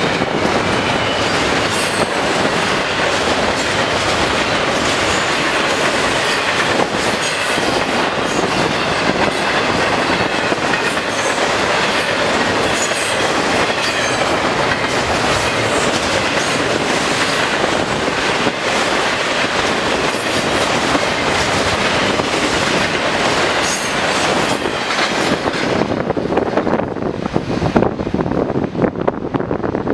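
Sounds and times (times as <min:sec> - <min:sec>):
wheels clacking over rail joints: 0:00.0 - 0:26.9
train wheels rumbling on rail: 0:00.0 - 0:29.9.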